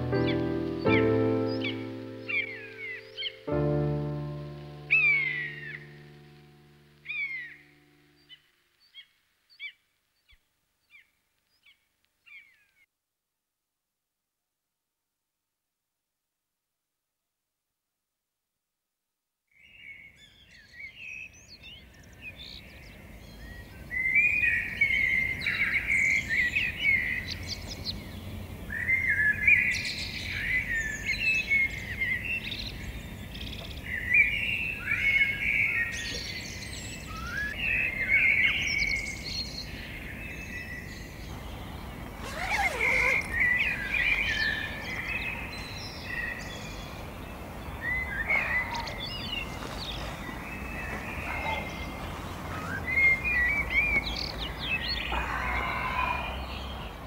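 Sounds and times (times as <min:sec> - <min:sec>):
songbirds singing: 0:00.0 - 0:12.8, 0:19.6 - 0:57.0.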